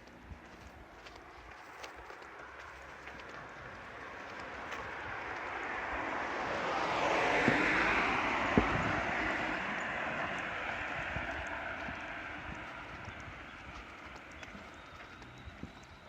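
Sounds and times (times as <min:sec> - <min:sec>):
vehicle passing: 0:01.2 - 0:16.0.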